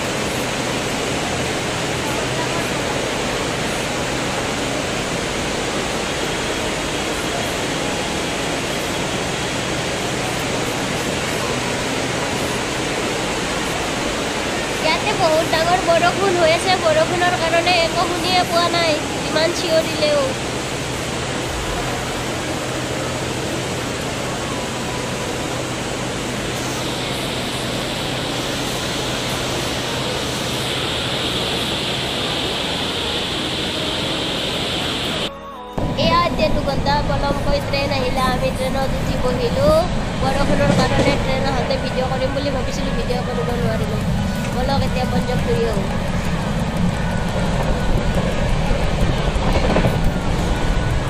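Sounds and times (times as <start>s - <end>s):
heavy rain: 0.0s - 51.0s.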